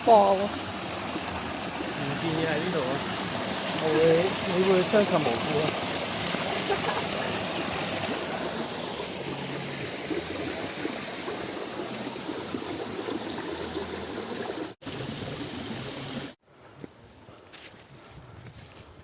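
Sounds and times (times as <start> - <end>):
waterfall splashing over rocks: 0.0 - 16.4.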